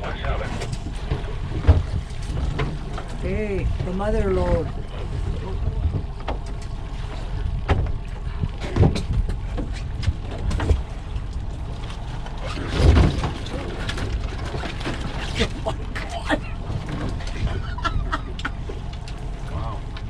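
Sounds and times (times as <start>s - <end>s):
boat motor hum: 0.0s - 20.0s.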